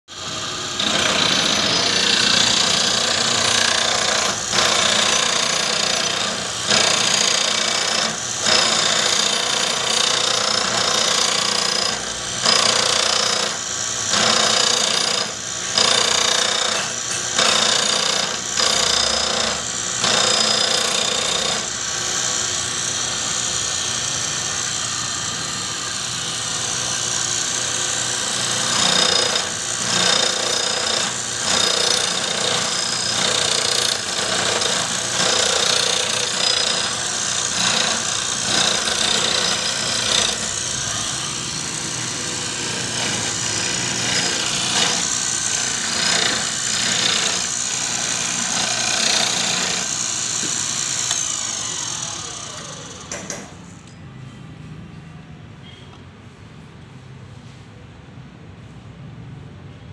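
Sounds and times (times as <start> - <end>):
grinding wheel grinding steel: 0.1 - 20.0, 21.6 - 53.1.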